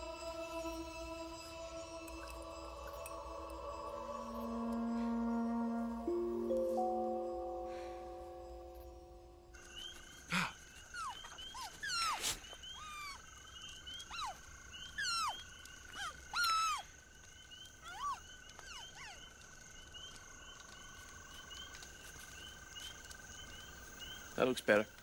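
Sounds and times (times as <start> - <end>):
insect drones: 0.0 - 25.0.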